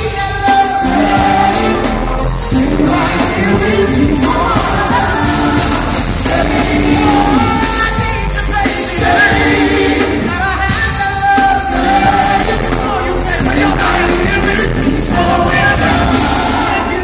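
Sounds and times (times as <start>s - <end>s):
live band with keyboards: 0.0s - 17.0s
man singing into microphone: 0.0s - 17.0s.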